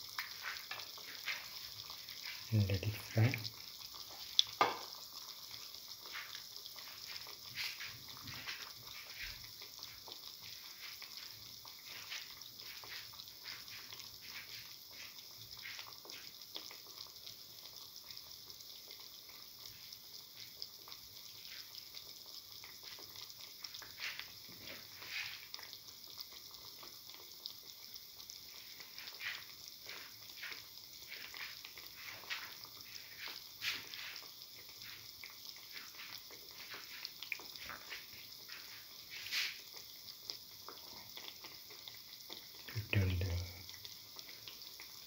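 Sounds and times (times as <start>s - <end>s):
batter sizzling in hot oil: 0.0s - 45.0s.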